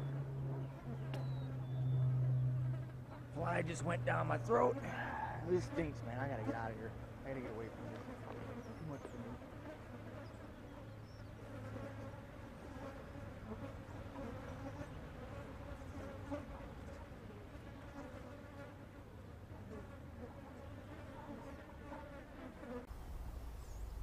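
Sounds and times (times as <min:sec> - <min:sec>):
swarm of flies buzzing: 0:00.0 - 0:24.0.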